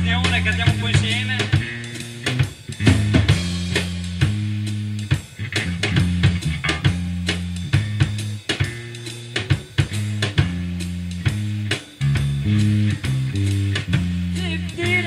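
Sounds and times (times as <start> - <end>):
bass guitar: 0.0 - 15.0
drum kit: 0.0 - 15.0
electric guitar: 0.0 - 15.0.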